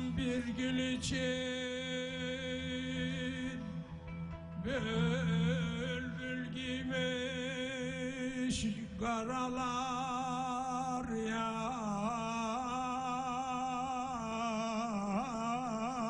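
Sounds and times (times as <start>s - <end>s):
man singing folk song: 0.0s - 3.7s, 4.6s - 16.0s
low accompanying tone: 0.0s - 16.0s.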